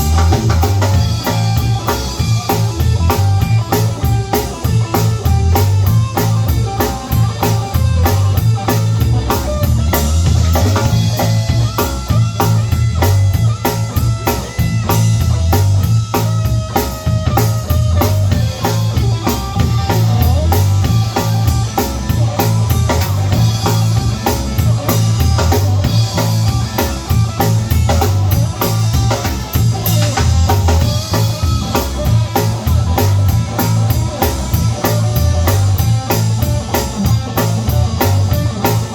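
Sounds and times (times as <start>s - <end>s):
blues band playing live: 0.0s - 38.9s
drum kit: 0.0s - 38.9s.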